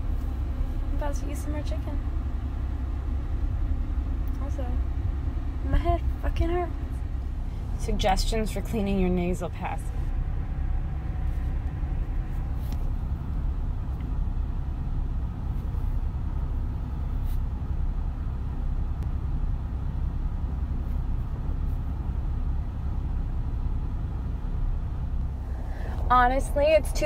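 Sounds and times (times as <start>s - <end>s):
car engine rumble from inside: 0.0s - 27.0s.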